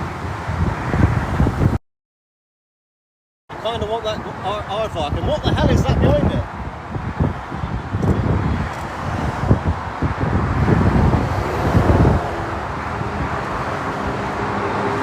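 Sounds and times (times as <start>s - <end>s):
lorries passing on motorway: 0.0s - 1.8s, 3.5s - 15.0s
wind buffeting microphone: 0.0s - 1.8s, 3.6s - 15.0s.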